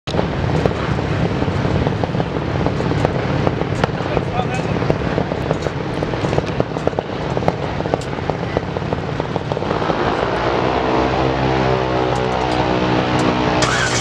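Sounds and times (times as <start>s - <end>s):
truck engine idling with pops: 0.1s - 10.3s, 12.1s - 14.0s.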